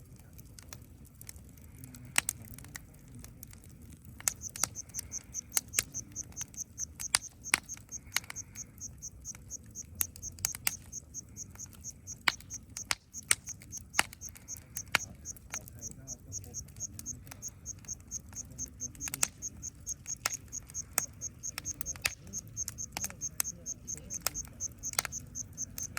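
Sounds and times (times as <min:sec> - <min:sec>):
wood fire crackling and popping: 0:00.0 - 0:25.9
insect chirping: 0:04.3 - 0:25.9.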